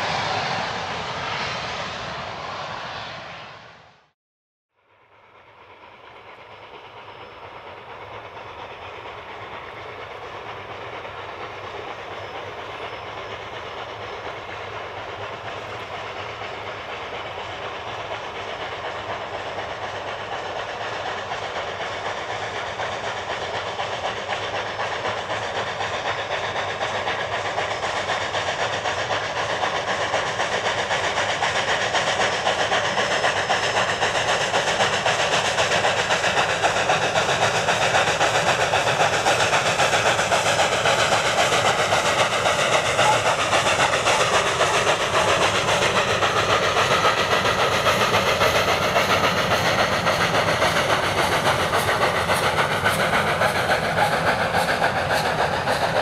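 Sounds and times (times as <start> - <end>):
steam locomotive exhaust: 0.0 - 4.2, 4.8 - 56.0
train wheels rolling: 5.2 - 56.0.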